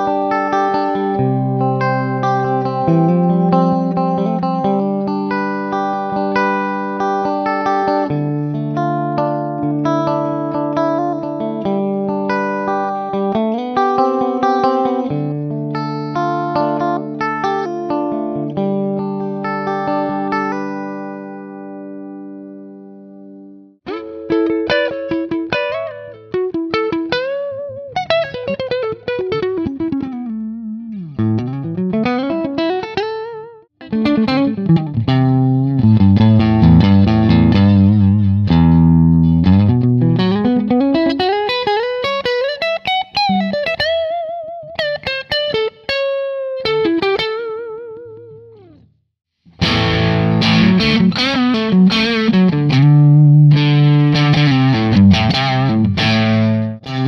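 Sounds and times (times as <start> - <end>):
electric guitar with sliding notes: 0.0 - 48.8, 49.5 - 57.0.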